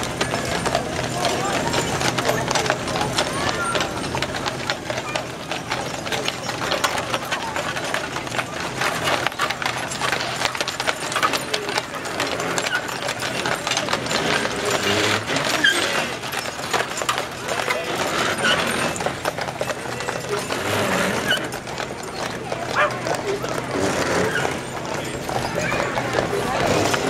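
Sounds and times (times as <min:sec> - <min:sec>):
hooves clopping on asphalt: 0:00.0 - 0:27.0.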